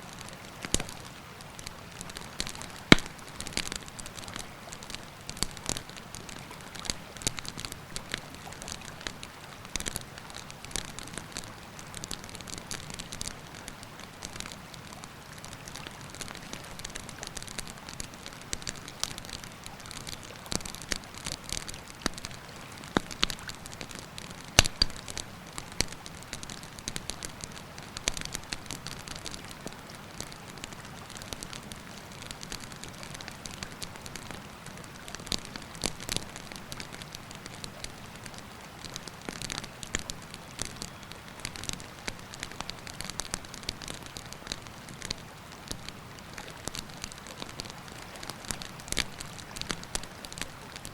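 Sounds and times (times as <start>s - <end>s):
campfire crackling and popping: 0.1s - 50.9s.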